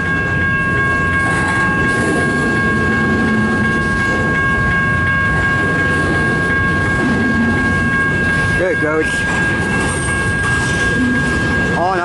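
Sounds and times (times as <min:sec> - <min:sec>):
freight train cars rolling past: 0:00.0 - 0:12.0
steady high tone: 0:00.0 - 0:12.0.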